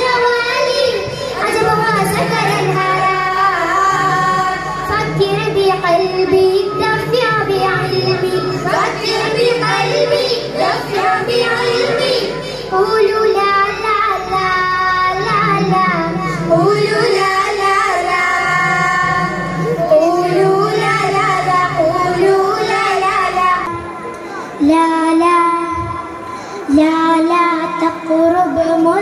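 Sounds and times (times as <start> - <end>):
children singing into microphones: 0.0 - 29.0.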